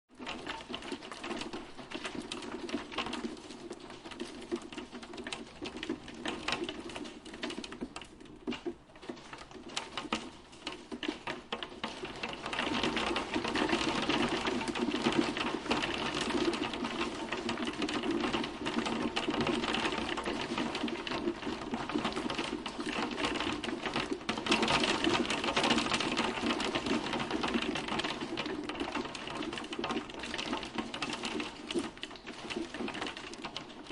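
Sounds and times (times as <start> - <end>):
hailstones clattering on hard surfaces: 0.2 - 33.9.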